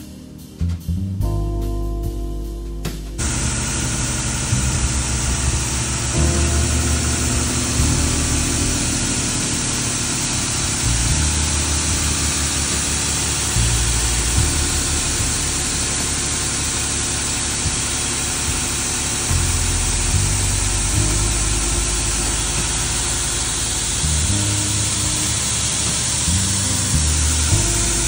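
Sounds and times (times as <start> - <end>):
machine humming: 3.2 - 28.0
water spraying from nozzles: 3.2 - 28.0.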